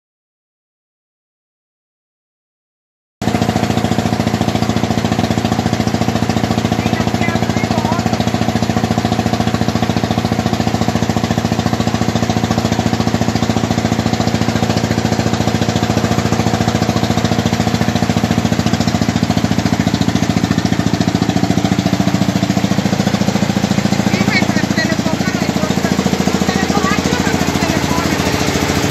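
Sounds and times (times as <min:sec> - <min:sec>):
boat engine running: 0:03.2 - 0:28.9.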